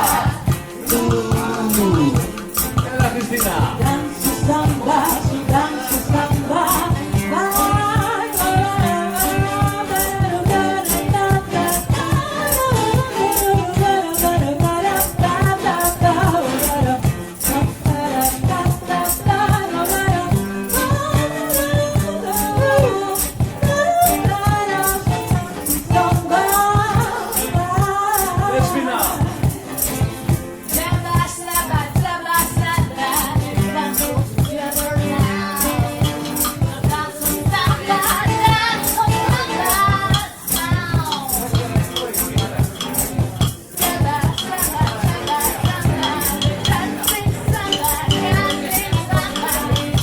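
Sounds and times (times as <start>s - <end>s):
hand-shaker rhythm: 0.0s - 50.0s
vocal trio singing in harmony: 0.0s - 50.0s.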